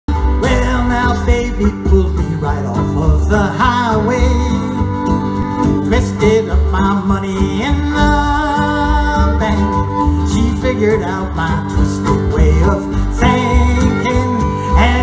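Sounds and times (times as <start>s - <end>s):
fiddle melody: 0.1s - 15.0s
plucked upright bass: 0.1s - 15.0s
strummed acoustic guitar: 0.1s - 15.0s.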